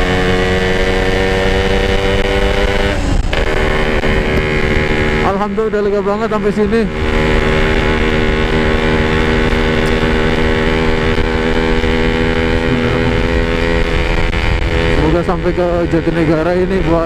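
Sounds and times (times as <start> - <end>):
two-stroke motorcycle engine running: 0.0 - 17.0.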